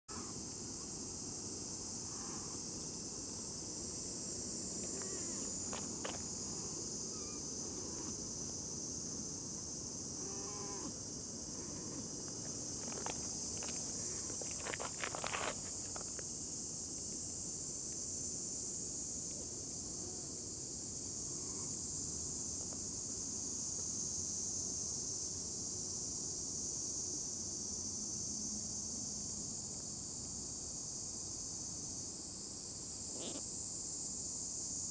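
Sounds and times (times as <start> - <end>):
insects chirping: 0.1 - 34.9.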